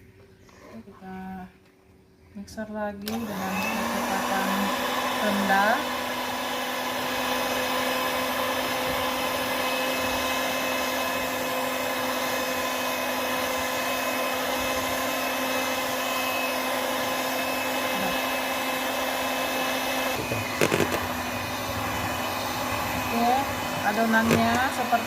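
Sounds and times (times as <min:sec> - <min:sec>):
electric mixer whining: 0:03.0 - 0:25.0.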